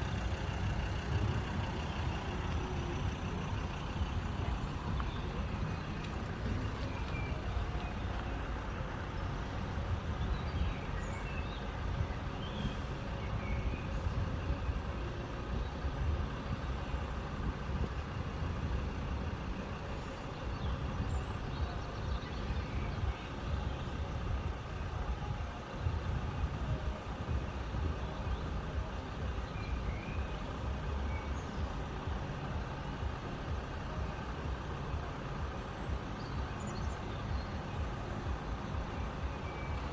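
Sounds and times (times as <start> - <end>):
vehicle engines idling: 0.0 - 39.9.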